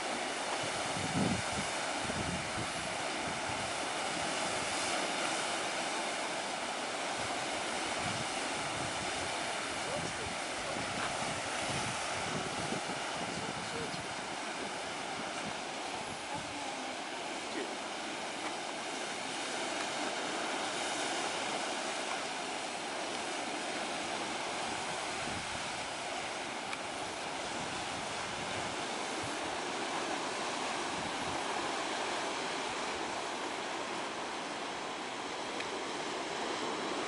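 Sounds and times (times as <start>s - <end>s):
ocean surf breaking on rocks: 0.0s - 37.0s.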